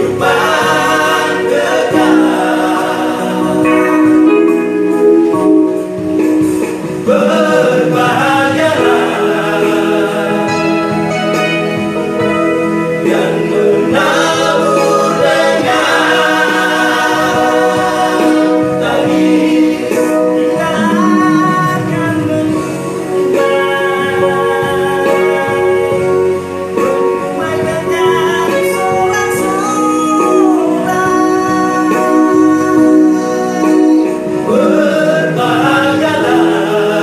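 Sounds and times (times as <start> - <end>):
male vocal group singing: 0.0 - 5.2, 6.8 - 37.0.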